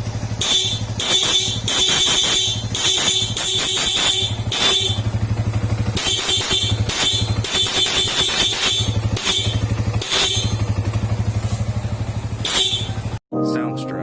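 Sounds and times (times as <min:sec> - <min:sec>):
motorcycle engine idling: 0:00.0 - 0:13.2
horn short blasts: 0:00.3 - 0:13.2.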